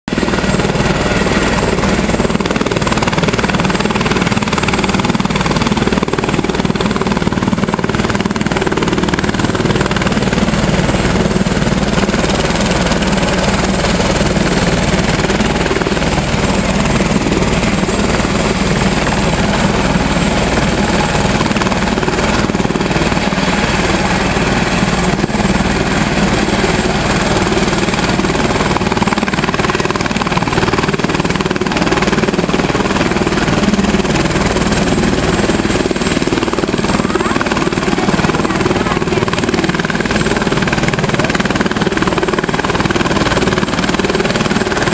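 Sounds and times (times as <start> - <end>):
helicopter running: 0.1 - 44.9.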